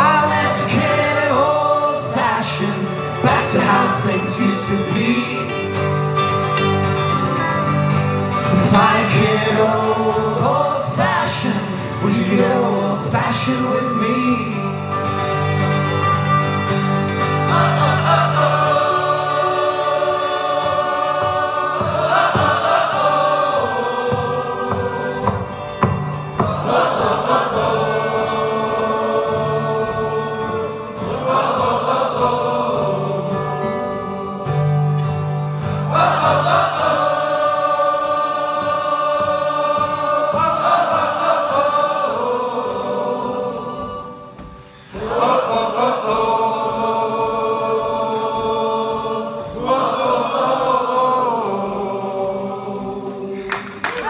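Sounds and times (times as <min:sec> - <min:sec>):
acoustic guitars: 0:00.0 - 0:54.0
voices singing together: 0:00.0 - 0:54.0.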